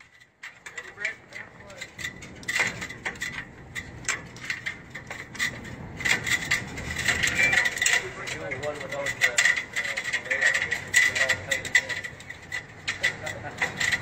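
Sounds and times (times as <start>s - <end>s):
clinks on metal ladder rungs: 0.0s - 14.0s
rope and webbing rubbing: 0.0s - 14.0s.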